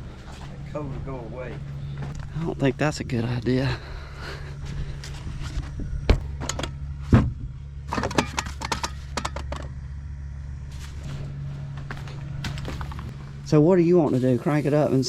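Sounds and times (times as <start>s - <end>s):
combine harvester engine humming: 0.0s - 15.0s.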